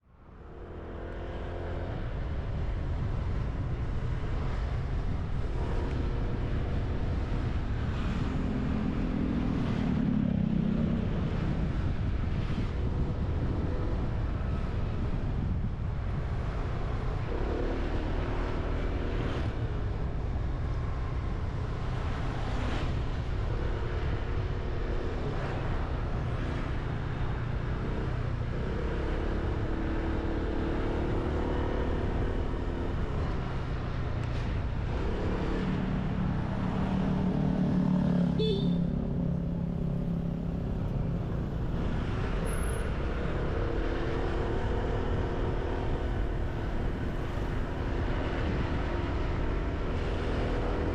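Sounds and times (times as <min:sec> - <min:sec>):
passing traffic: 0:00.0 - 0:50.9
road and wind noise: 0:00.0 - 0:50.9.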